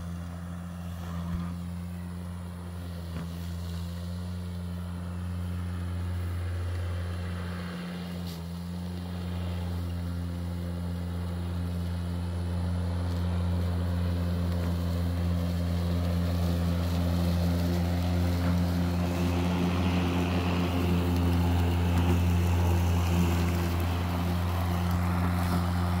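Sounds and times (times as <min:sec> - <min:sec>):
electric lawn mower humming: 0:00.0 - 0:26.0
grass being cut hiss: 0:00.0 - 0:26.0.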